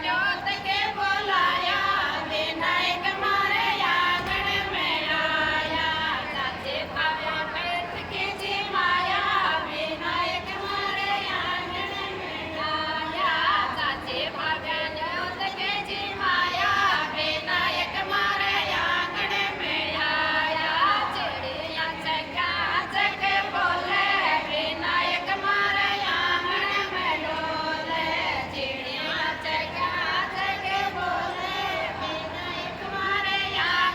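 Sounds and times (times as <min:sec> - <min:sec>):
women singing together: 0:00.0 - 0:33.9.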